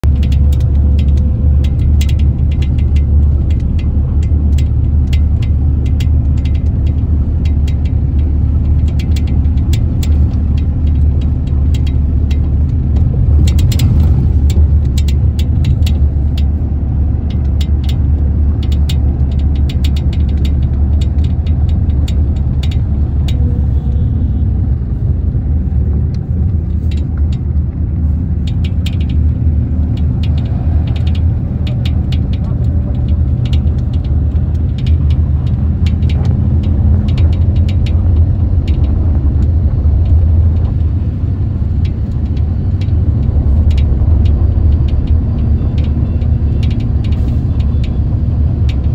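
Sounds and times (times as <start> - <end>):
light rattles and clicks: 0.0 - 48.9
vehicle engine and road noise: 0.0 - 48.9.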